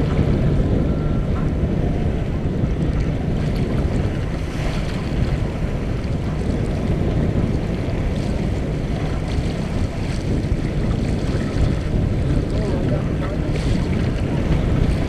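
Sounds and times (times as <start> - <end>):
water rushing along hull: 0.0 - 15.0
wind on microphone: 0.0 - 15.0.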